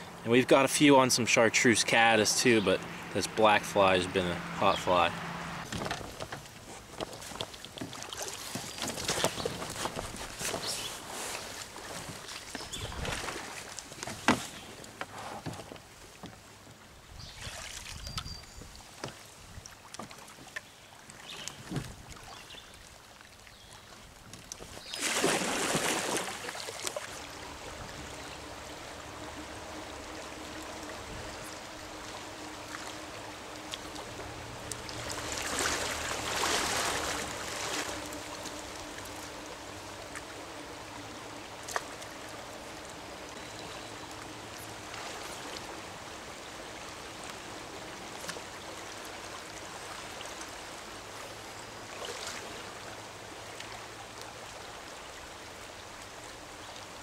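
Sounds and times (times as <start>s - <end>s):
stream water running: 0.0s - 57.0s
water splashing: 2.3s - 15.0s, 17.3s - 57.0s.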